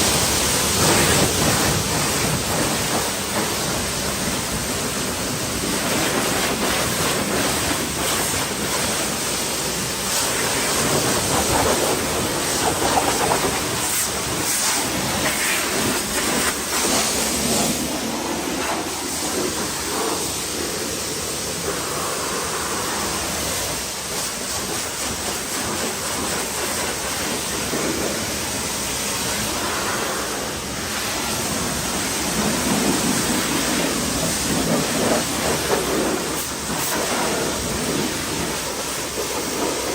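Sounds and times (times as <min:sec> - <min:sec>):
pressure washer spraying car: 0:00.0 - 0:39.9.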